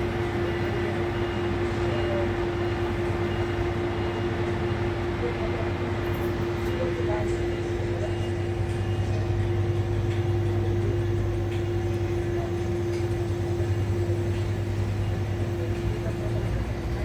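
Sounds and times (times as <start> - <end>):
train running with low hum: 0.0 - 17.0.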